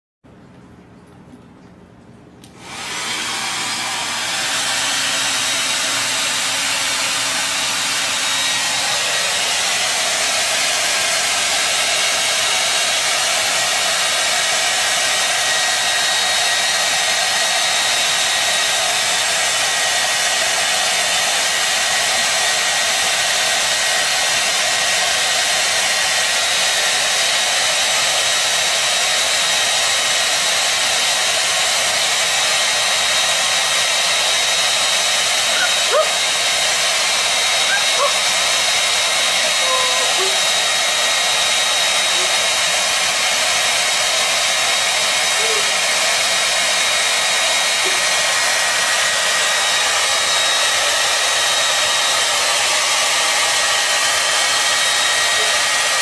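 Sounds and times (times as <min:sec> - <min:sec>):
hair dryer blowing with high whine: 0:02.4 - 0:56.0.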